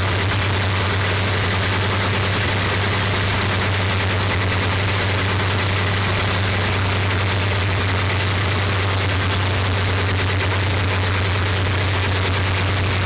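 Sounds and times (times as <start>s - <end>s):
radial aircraft engine and propeller: 0.0s - 13.0s.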